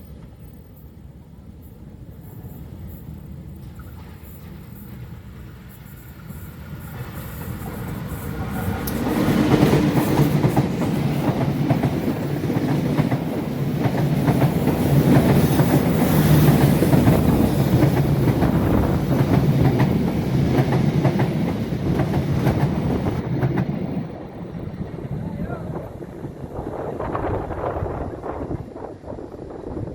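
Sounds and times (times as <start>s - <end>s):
locomotive humming: 0.0s - 29.9s.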